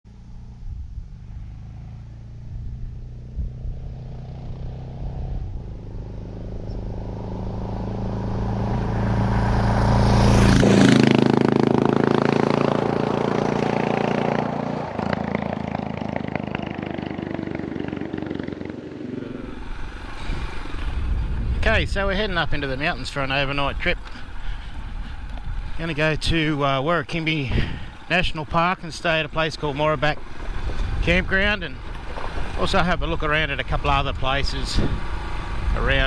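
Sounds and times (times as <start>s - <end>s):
motorcycle riding past: 0.1s - 36.0s.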